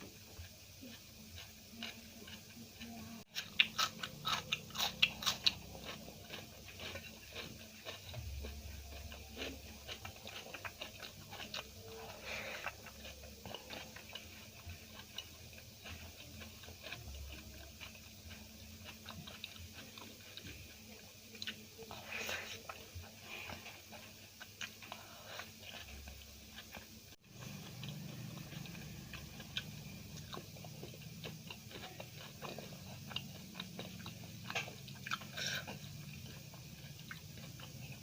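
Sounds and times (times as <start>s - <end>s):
chewing food: 0.0s - 38.0s
loud crunches biting crisp food: 3.3s - 20.8s, 21.4s - 38.0s.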